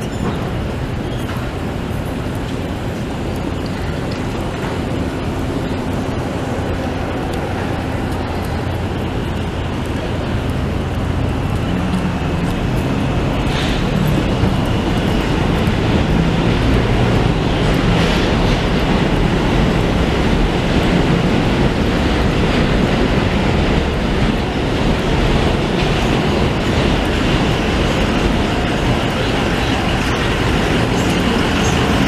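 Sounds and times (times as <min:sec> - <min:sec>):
train rumbling and clattering: 0:00.0 - 0:32.0.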